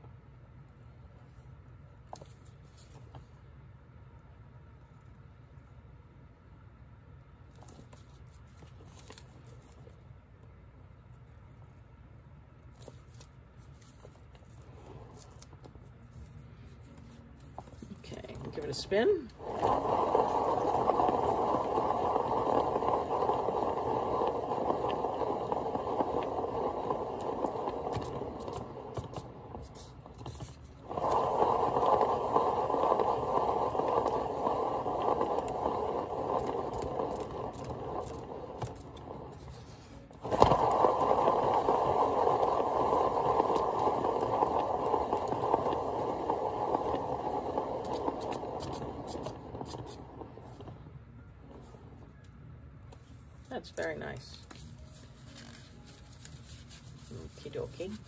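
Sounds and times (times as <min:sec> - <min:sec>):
paint spinner whirring: 0:00.0 - 0:58.0.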